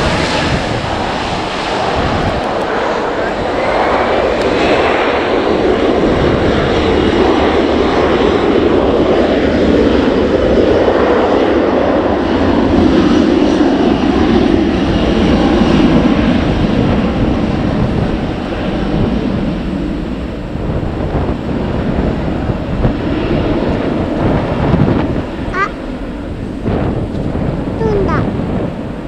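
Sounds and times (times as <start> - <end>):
airliner engine noise overhead: 0.0 - 29.0.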